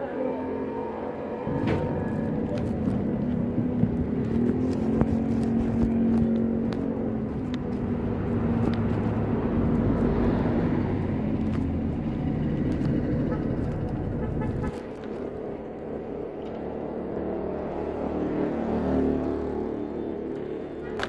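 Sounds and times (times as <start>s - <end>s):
road and wind rumble: 0.0s - 21.0s.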